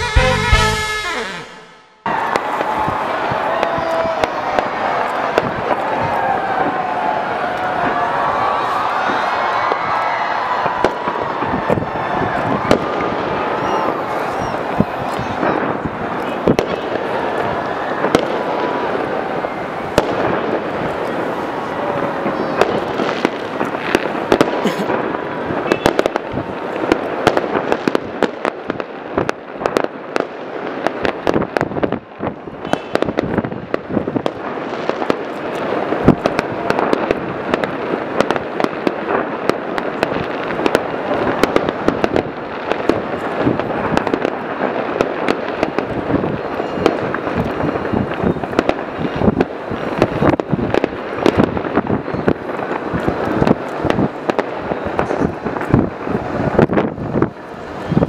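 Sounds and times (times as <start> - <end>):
fireworks bangs and crackles: 2.0 - 58.0.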